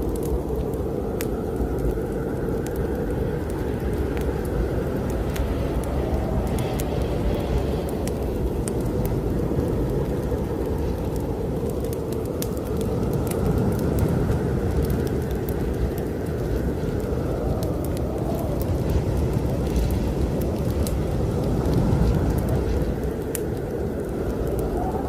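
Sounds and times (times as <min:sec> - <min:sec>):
strong wind blowing: 0:00.0 - 0:25.0
wood fire crackling: 0:00.0 - 0:25.0.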